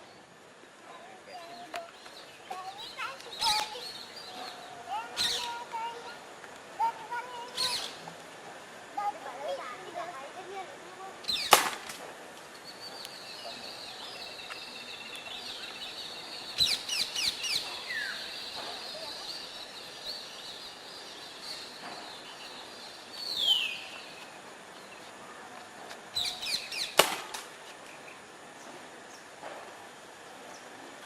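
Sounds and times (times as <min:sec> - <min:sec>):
birds chirping: 0:00.0 - 0:29.5.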